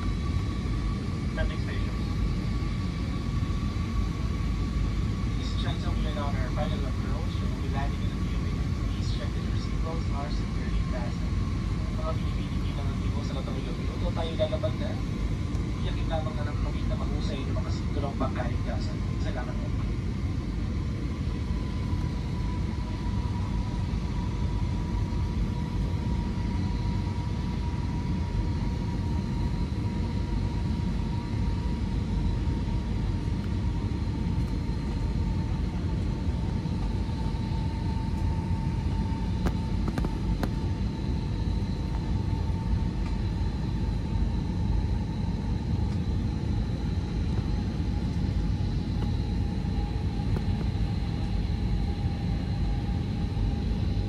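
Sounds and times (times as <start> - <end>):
aircraft cabin rumble: 0.0 - 54.0
faint engine whine: 0.0 - 54.0.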